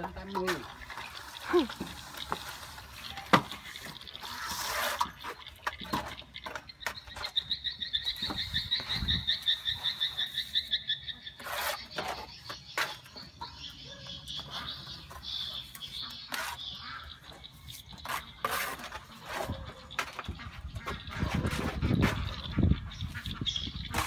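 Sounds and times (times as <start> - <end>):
trowels scraping cement render: 0.0 - 24.0.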